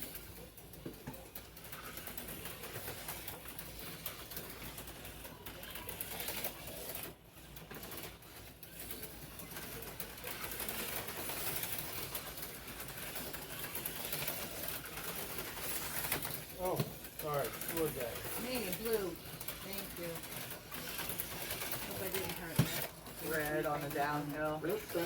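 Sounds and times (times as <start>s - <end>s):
slot cars whirring and rattling: 0.0s - 25.0s.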